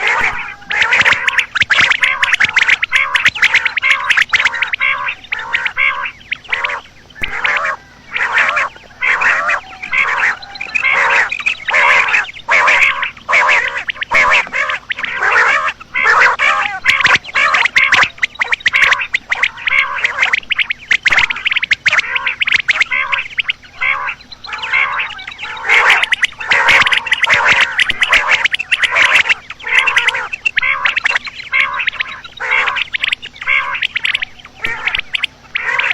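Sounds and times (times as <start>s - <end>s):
quail croaking calls: 0.0s - 35.9s.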